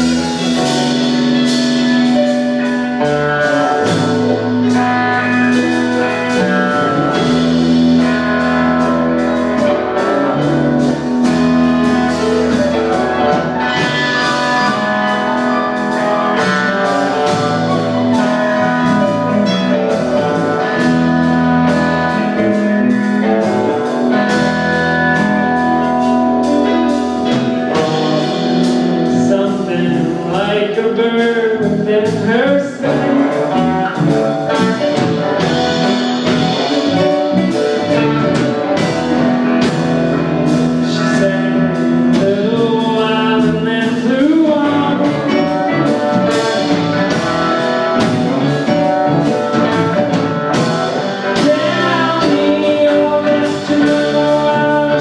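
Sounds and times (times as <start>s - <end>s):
bass guitar: 0.0s - 55.0s
drum kit: 0.0s - 55.0s
electric guitars: 0.0s - 55.0s
keyboards: 0.0s - 55.0s.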